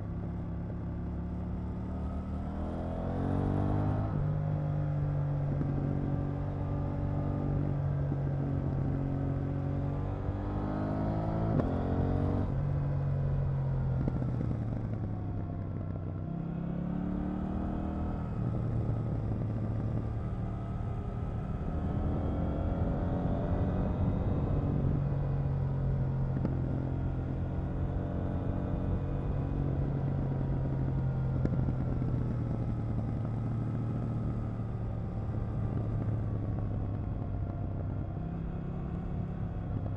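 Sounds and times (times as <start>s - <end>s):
motorcycle engine revving: 0.6s - 39.9s.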